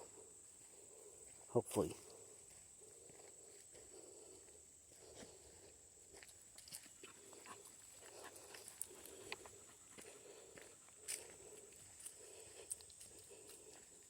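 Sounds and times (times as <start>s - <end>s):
footsteps on a trail: 0.0s - 14.0s.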